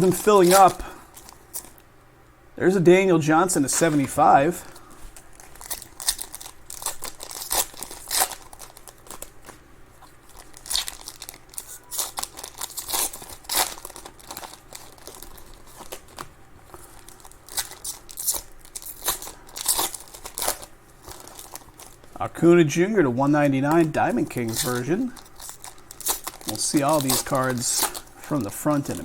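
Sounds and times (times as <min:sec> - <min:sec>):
wrappers crinkling and tearing: 0:00.0 - 0:01.9, 0:03.6 - 0:22.2, 0:23.1 - 0:29.0.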